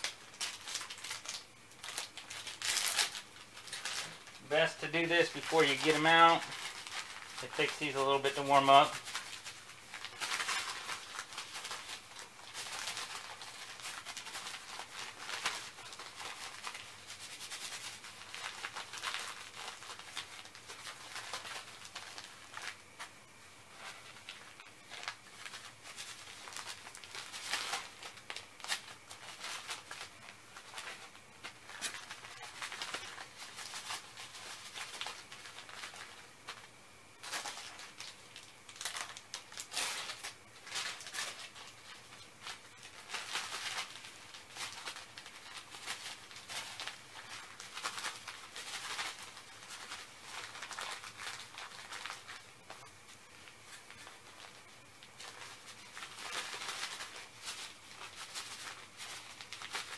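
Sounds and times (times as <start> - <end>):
wrappers rustling and crinkling: 0.0 - 59.9.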